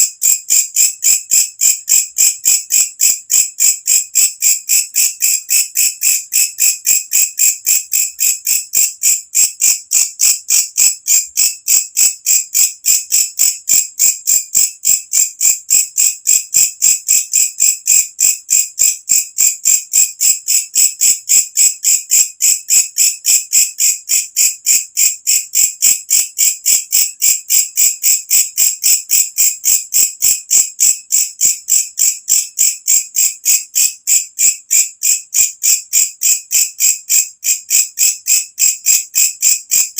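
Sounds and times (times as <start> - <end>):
insect calling in rapid pulses: 0.0 - 39.9.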